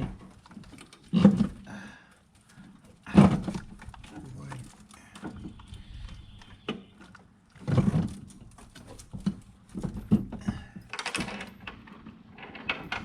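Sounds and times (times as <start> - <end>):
clunks and knocks of tools: 0.0 - 1.7, 2.5 - 13.0.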